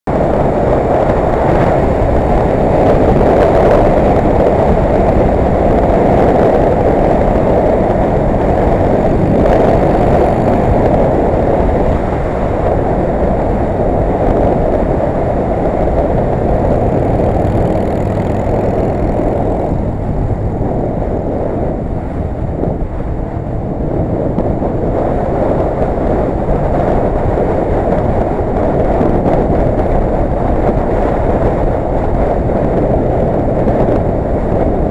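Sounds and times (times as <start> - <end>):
motorcycle engine running: 0.1 - 34.9
road noise: 0.1 - 34.9
wind rush: 0.1 - 34.9.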